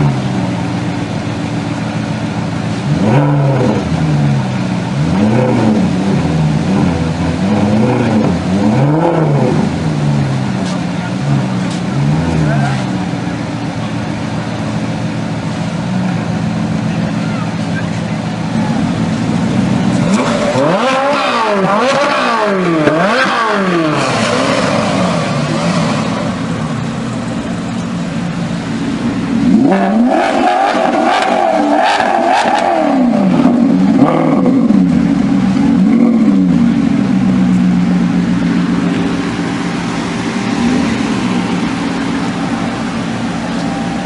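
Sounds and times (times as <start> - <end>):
engines idling: 0.0 - 44.0
sports car engines revving: 0.0 - 44.0.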